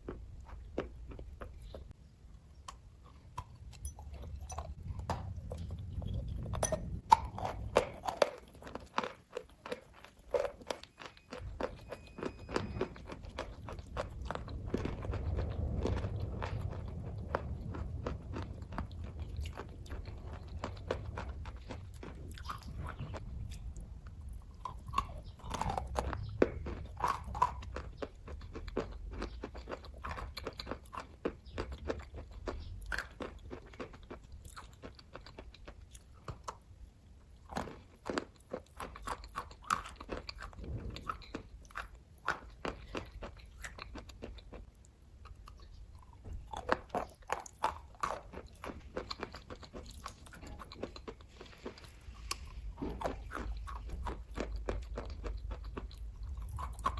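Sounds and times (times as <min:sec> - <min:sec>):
person chewing and biting: 0:00.0 - 0:56.9.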